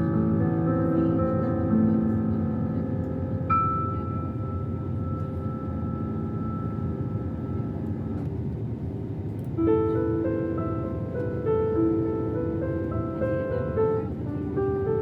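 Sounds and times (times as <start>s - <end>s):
piano notes: 0.0s - 8.4s, 9.5s - 15.0s
airliner engine drone in cabin: 0.0s - 15.0s.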